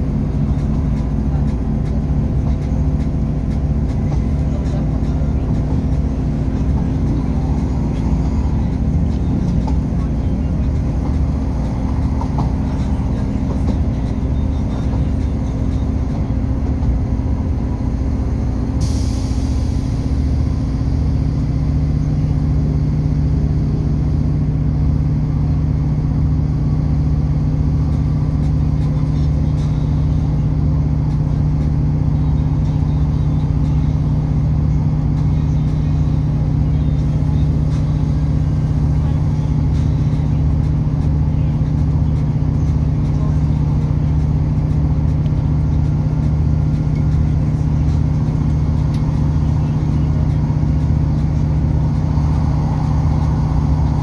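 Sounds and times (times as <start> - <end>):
steady low hum: 0.0 - 54.0
train rumbling inside carriage: 0.0 - 54.0.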